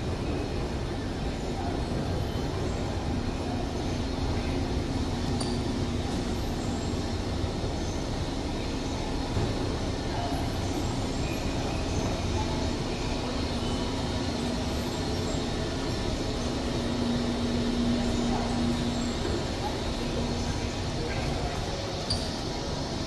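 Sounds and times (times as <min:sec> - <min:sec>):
constant hum: 0:00.0 - 0:23.0
escalator mechanical rumble: 0:00.0 - 0:23.0.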